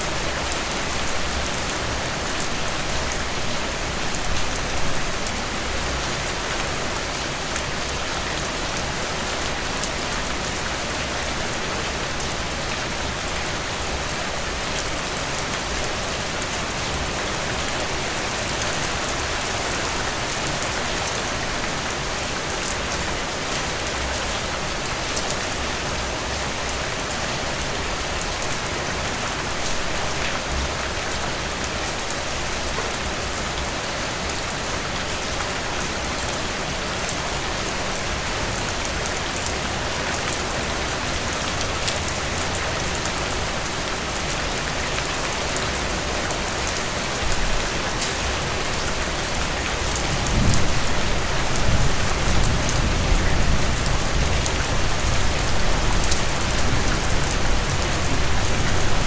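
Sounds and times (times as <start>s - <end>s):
rain drops pattering on surfaces: 0.0s - 59.0s.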